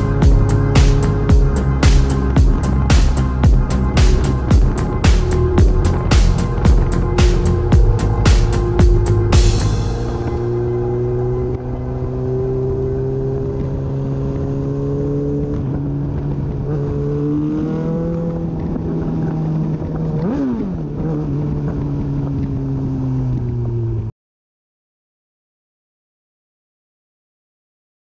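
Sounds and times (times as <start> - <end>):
motorcycle engine running: 0.0 - 24.1.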